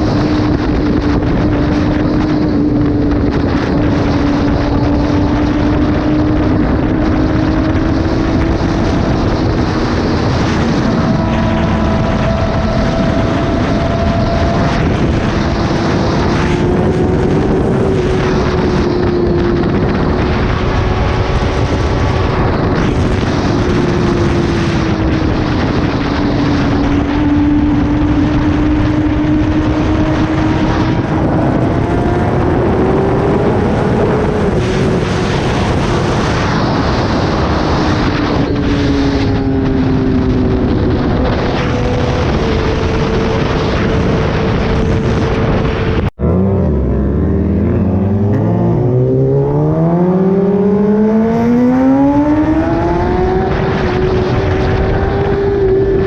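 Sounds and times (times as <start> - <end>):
motorcycle engine revving: 0.0 - 56.0
rushing air noise: 0.0 - 56.0.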